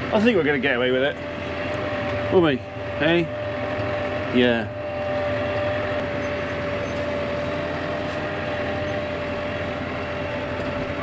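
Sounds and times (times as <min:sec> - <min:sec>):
loader engine running: 0:00.0 - 0:11.0.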